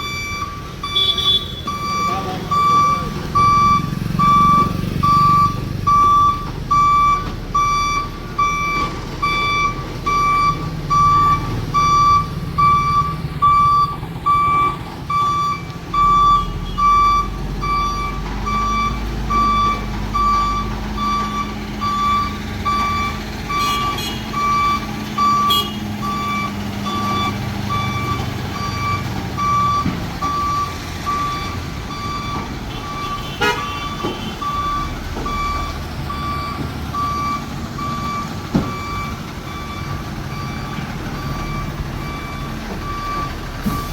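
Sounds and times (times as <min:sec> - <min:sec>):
truck engine running: 0:00.0 - 0:43.9
truck reversing alarm beeping: 0:00.0 - 0:43.9.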